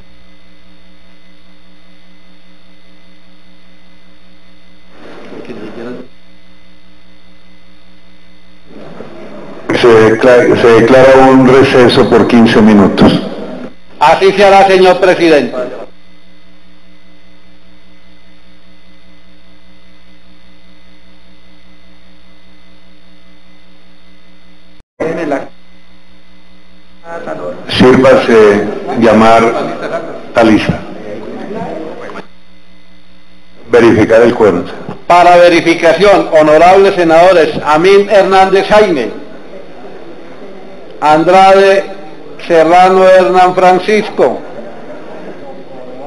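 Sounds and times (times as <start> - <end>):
electrical hum with hiss: 0.0 - 46.0.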